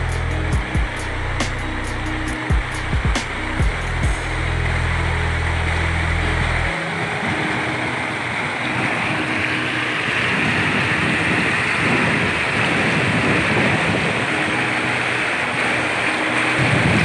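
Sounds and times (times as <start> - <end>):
water rushing over a weir: 0.0 - 17.0.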